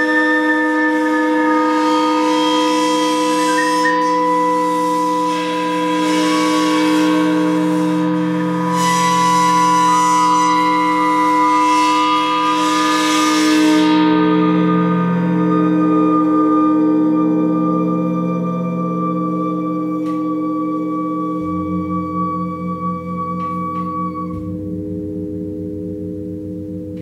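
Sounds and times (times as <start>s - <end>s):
flute playing held notes: 0.0s - 14.0s, 14.8s - 24.6s
gongs and singing bowls ringing: 0.0s - 27.0s.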